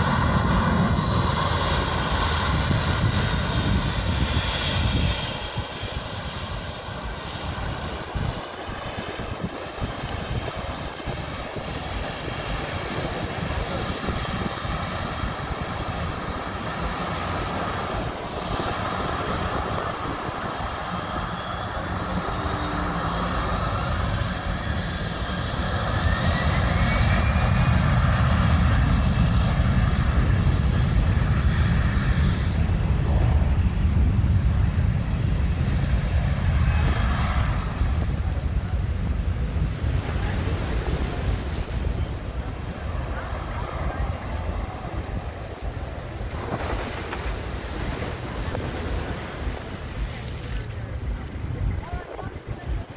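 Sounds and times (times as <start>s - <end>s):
heavy low rumble: 0.0s - 52.9s
jet engines whining: 0.0s - 52.9s.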